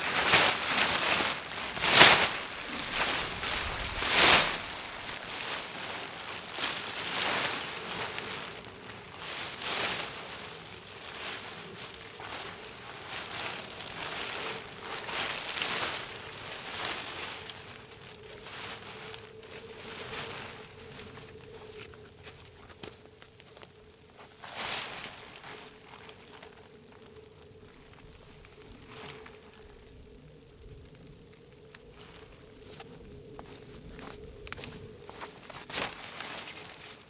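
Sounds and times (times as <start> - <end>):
rustling and scuffing: 0.0 - 29.8, 30.8 - 37.0.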